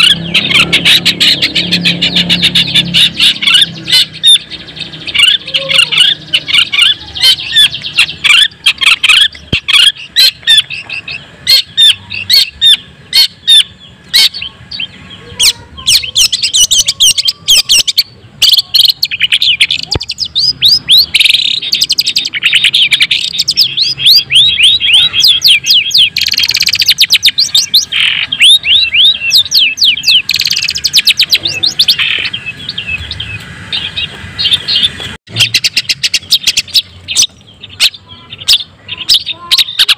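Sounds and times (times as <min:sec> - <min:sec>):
bird singing fast chirps: 0:00.0 - 0:39.9.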